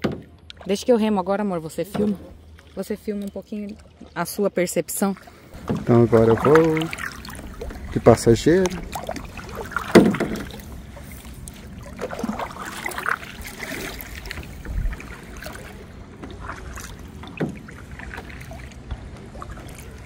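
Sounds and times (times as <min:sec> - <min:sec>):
low water and air hiss: 0:00.1 - 0:20.0
paddle splashing in water: 0:01.7 - 0:20.0.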